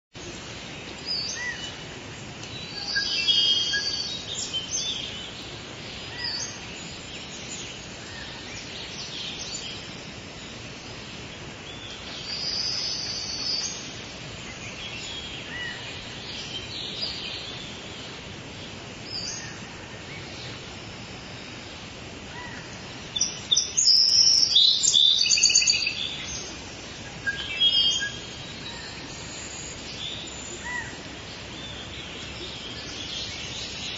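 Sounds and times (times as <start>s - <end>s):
songbirds twittering: 0.2s - 33.9s
steady background hiss: 0.2s - 33.9s.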